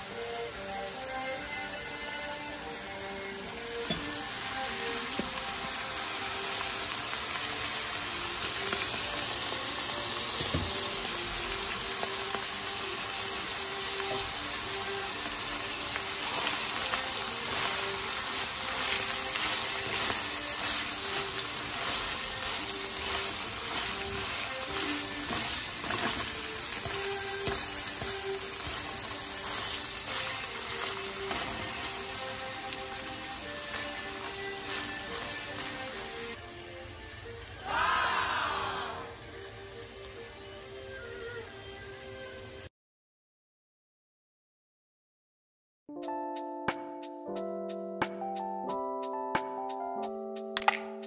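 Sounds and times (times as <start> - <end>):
food sizzling in a wok: 0.0 - 42.7
light background music: 0.0 - 42.7, 46.0 - 51.0.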